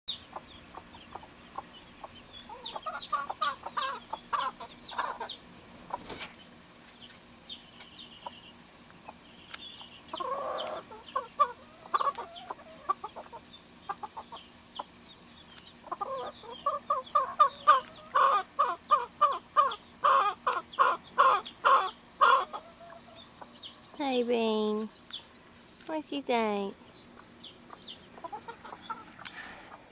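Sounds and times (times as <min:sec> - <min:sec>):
hen clucking: 0:00.1 - 0:06.6, 0:07.5 - 0:24.2, 0:26.3 - 0:29.9
chicks peeping: 0:00.1 - 0:29.9.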